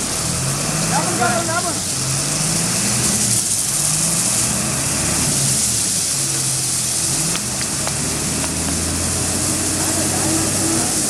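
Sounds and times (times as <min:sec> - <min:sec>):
lorry diesel engine under load: 0:00.0 - 0:11.0.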